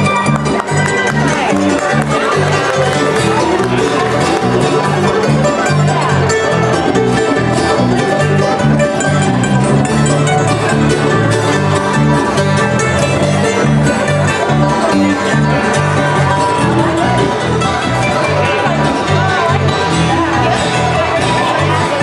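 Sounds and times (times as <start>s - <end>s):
bluegrass music with banjo: 0.0s - 22.0s.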